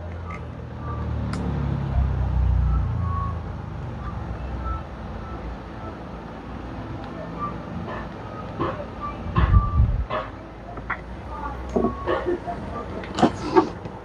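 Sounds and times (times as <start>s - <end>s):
passing vehicle engine rumble: 0.0s - 14.0s.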